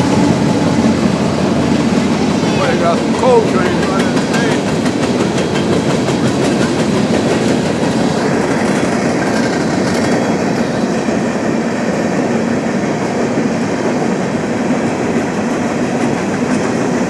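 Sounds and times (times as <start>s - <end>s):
train rumbling over rails: 0.0s - 17.0s.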